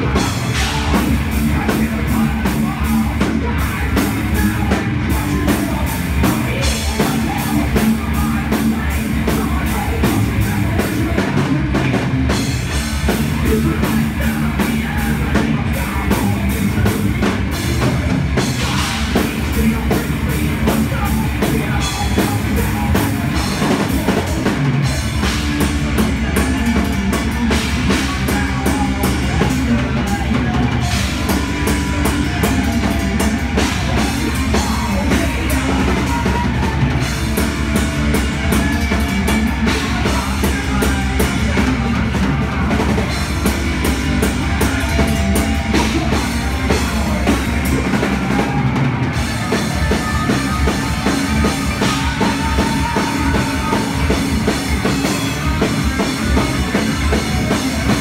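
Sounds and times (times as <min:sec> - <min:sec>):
metal band playing live: 0:00.0 - 0:58.0
rapid bass drum beat: 0:00.0 - 0:58.0.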